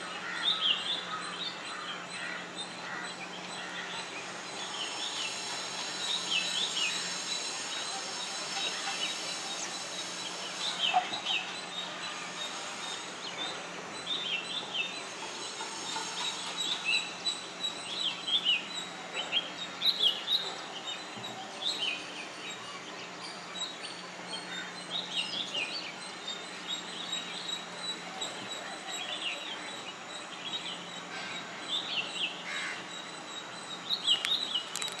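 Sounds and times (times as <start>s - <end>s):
steady background hiss: 0.0s - 35.0s
parakeets calling: 0.2s - 35.0s.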